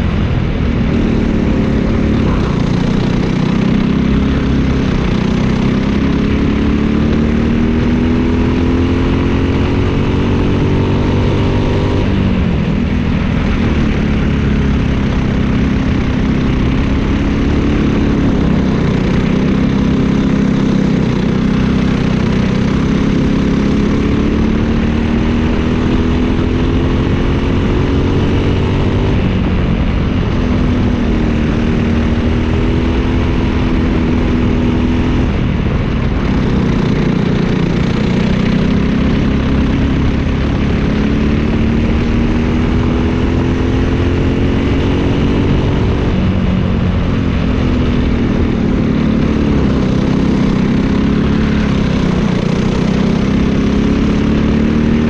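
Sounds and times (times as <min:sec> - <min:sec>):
kart engine at racing revs: 0:00.0 - 0:55.0.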